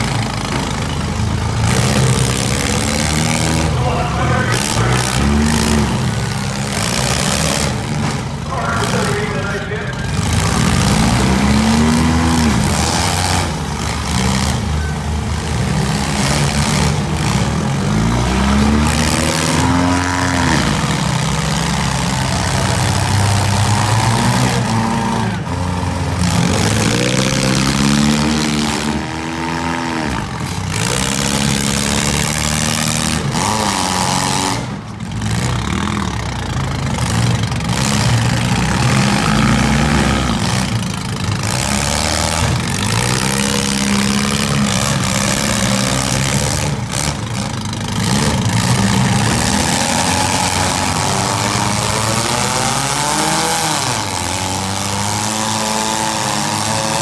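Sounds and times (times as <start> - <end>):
car engines revving: 0.0 - 57.0
tyres spinning in dirt: 0.0 - 57.0.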